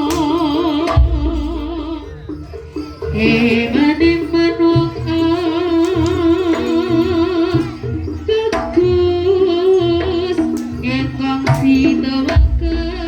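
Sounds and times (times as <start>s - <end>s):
low drum beats: 0.0s - 2.3s, 3.1s - 13.0s
wavering held melody: 0.0s - 13.0s.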